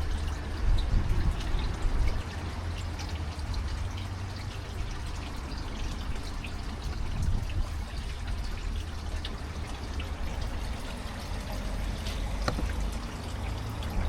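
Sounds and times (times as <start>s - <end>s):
water dripping: 0.0s - 14.0s
water pouring: 0.0s - 14.0s.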